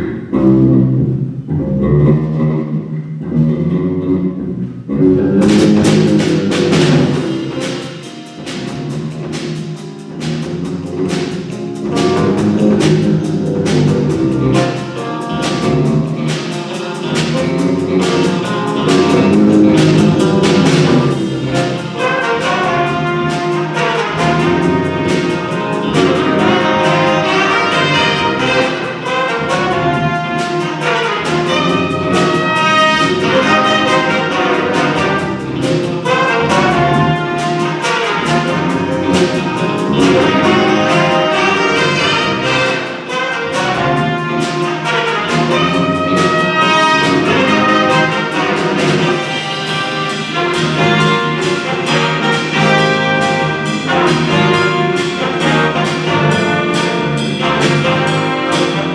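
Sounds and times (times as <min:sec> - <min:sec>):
big band brass section: 0:00.0 - 0:04.1, 0:04.9 - 0:58.9
steady drum beat: 0:05.2 - 0:58.9.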